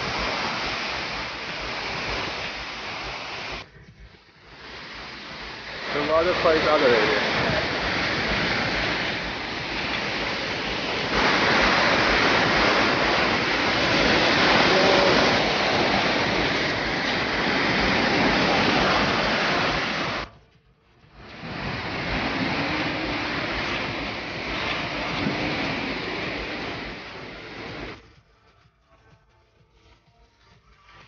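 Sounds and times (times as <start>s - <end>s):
waterfall rushing: 0.0s - 20.3s, 21.2s - 28.0s.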